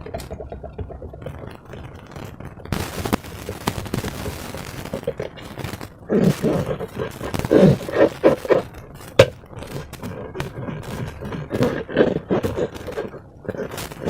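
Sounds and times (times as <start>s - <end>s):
slime squelching: 0.0s - 14.0s.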